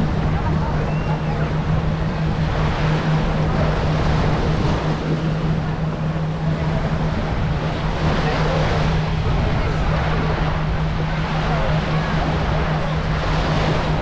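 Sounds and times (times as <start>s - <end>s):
steady low hum: 0.0s - 14.0s
surf: 0.0s - 14.0s
wind noise: 0.0s - 14.0s.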